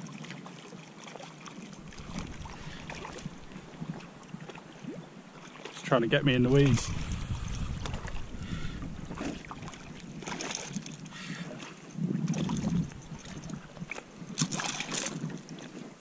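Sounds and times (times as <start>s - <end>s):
fish splashing in water: 0.0s - 5.8s, 6.5s - 15.9s
wind buffeting microphone: 1.7s - 16.0s.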